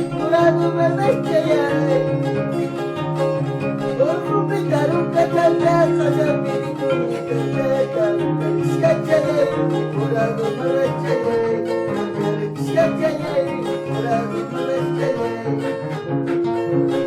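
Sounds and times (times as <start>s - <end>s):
harp plucked melody: 0.0s - 17.0s.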